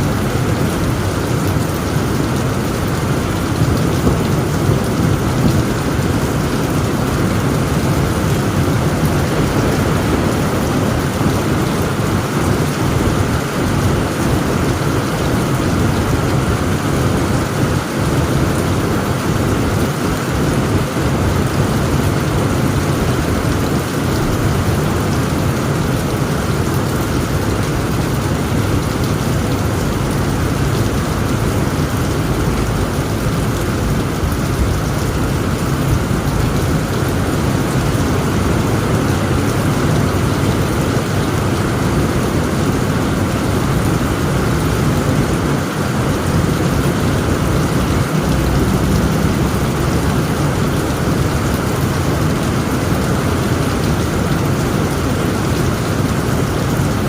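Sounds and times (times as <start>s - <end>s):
heavy rain on a tent roof: 0.0s - 57.0s
low thunder rumbling: 0.1s - 52.8s.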